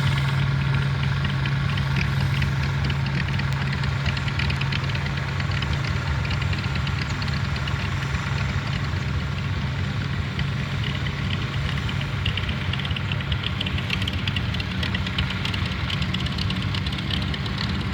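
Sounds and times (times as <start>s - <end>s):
diesel tractor engine running: 0.0s - 17.9s
light rapid rattling: 0.0s - 17.9s.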